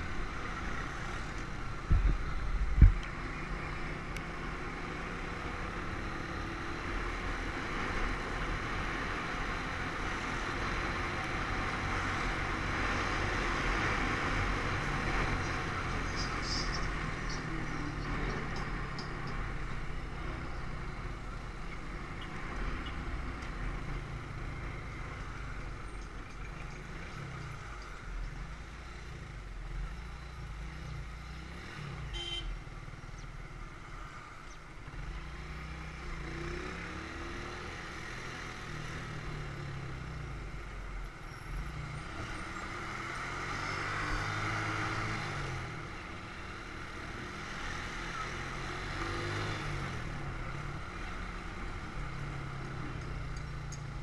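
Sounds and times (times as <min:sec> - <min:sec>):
road noise: 0:00.0 - 0:54.0
surrounding traffic: 0:00.0 - 0:54.0.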